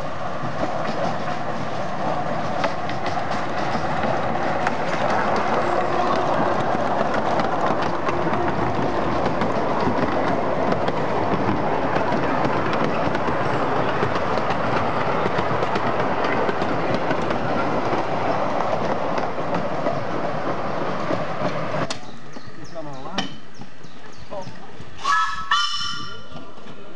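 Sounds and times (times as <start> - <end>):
steam locomotive passing: 0.0 - 26.9
wheels rumbling and clicking on rail: 0.0 - 26.9.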